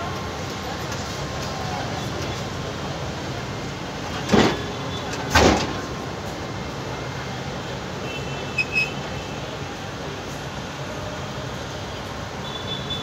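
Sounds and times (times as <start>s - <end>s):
tram rolling with low rumble: 0.0s - 8.0s, 8.6s - 12.3s.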